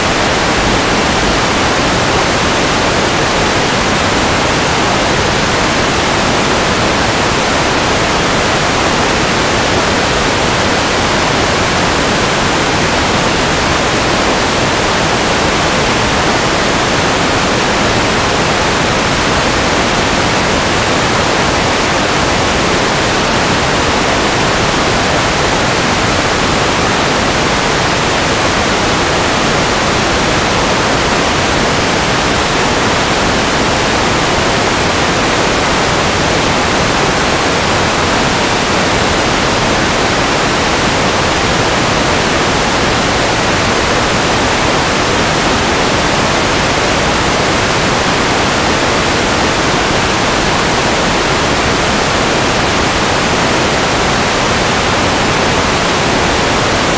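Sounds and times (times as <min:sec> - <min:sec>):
loud static hiss: 0:00.0 - 0:56.9.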